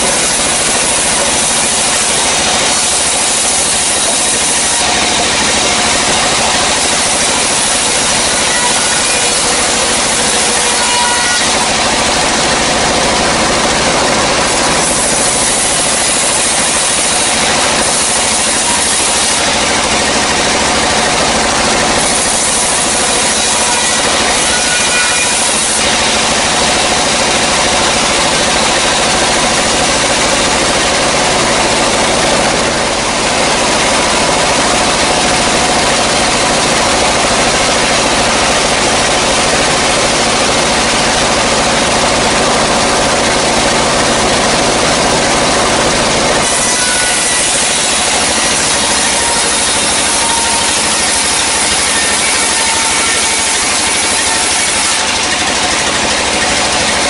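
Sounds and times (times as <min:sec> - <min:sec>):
band saw cutting log: 0:00.0 - 0:57.0
motor hum: 0:00.0 - 0:57.0.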